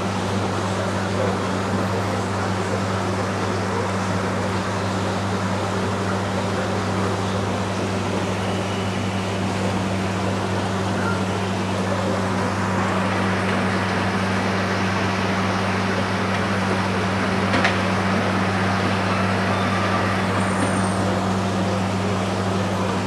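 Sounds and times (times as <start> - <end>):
aquarium pumps humming: 0.0 - 23.0.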